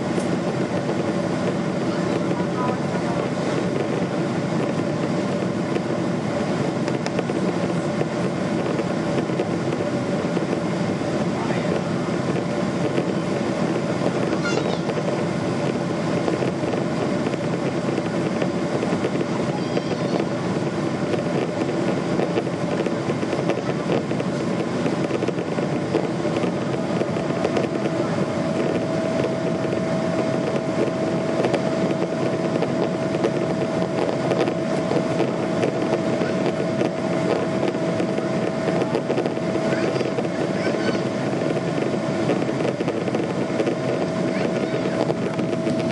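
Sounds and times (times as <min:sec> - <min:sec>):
jet engines droning: 0:00.0 - 0:45.9.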